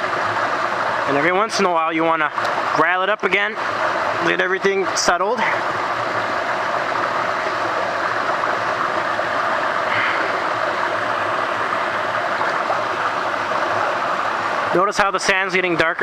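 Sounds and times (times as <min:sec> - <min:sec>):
river water rushing: 0:00.0 - 0:16.0
water swirling in a pan: 0:00.0 - 0:16.0.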